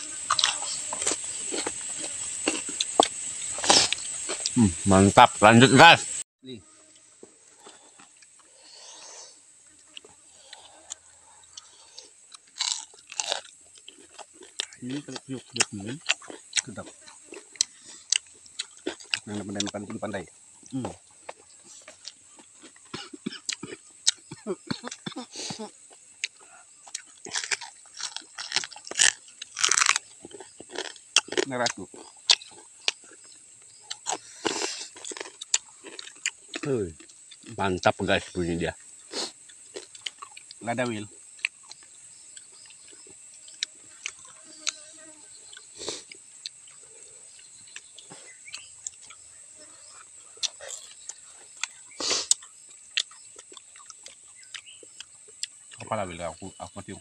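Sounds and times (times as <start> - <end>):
person chewing crunchy food: 0.0 - 4.7, 6.9 - 38.3, 39.0 - 55.8.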